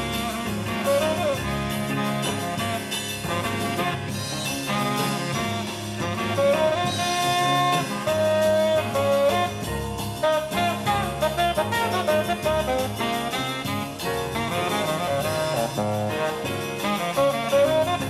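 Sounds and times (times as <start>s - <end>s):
jazz music over loudspeakers: 0.0s - 18.0s
lead instrument bending notes: 0.0s - 18.0s.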